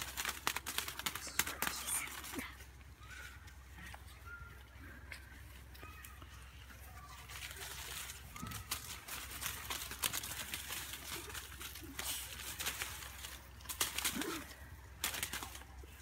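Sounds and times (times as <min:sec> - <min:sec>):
sticks crackling in dry bush: 0:00.0 - 0:04.0, 0:07.0 - 0:16.0.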